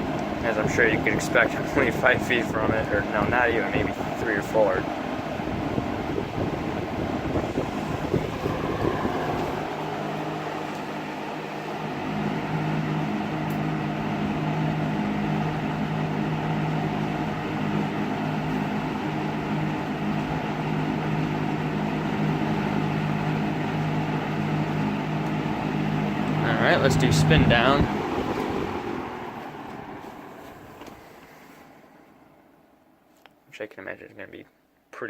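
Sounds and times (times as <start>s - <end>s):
fan air rushing: 0.0s - 33.2s
fan motor hum: 0.0s - 33.4s.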